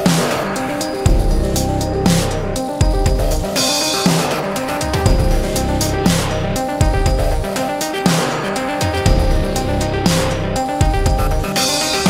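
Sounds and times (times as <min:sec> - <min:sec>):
electronic music with a beat: 0:00.0 - 0:12.0.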